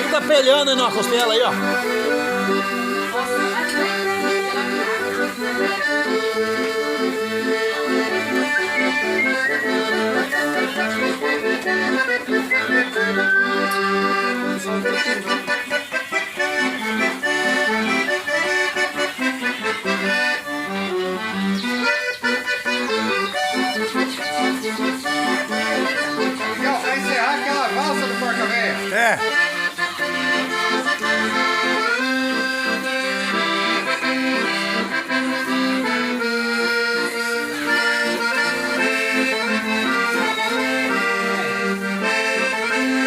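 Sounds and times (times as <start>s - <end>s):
accordion playing a waltz: 0.0s - 43.0s.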